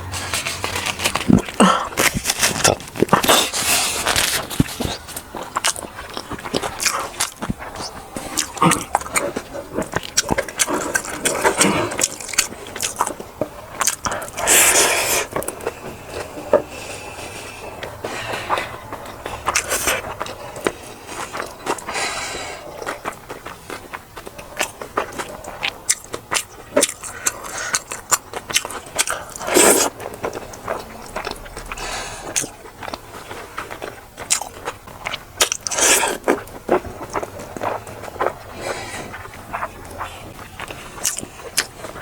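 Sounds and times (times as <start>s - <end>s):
chewing and biting food: 0.0s - 42.0s.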